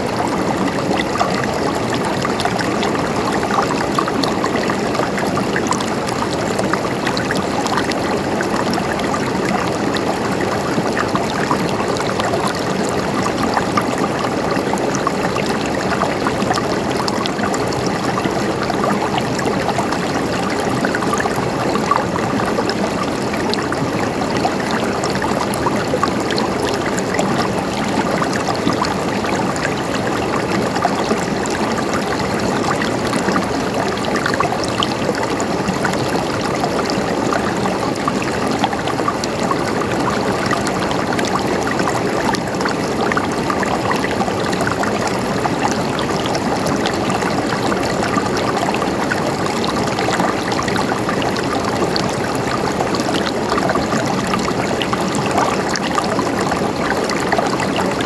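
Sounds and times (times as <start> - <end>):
flowing water gurgling: 0.0 - 58.0.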